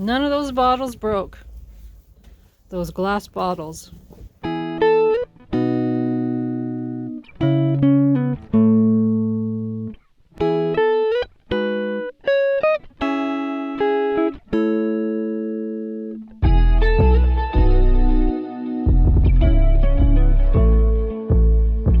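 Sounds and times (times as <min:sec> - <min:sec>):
plucked guitar music: 0:04.1 - 0:22.0.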